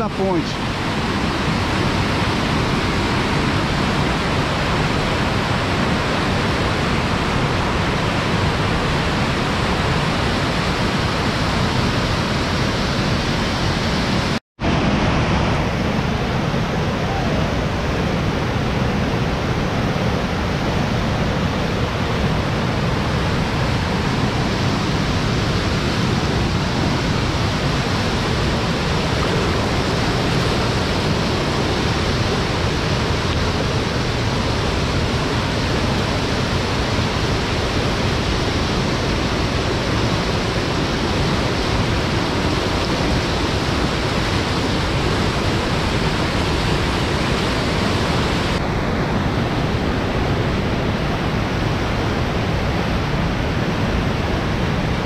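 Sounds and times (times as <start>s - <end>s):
river rapids roaring over rocks: 0.0s - 55.0s.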